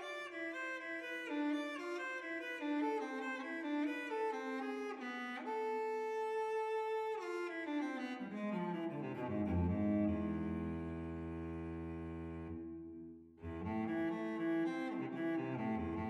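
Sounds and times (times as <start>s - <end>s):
solo cello playing slowly: 0.0s - 16.0s.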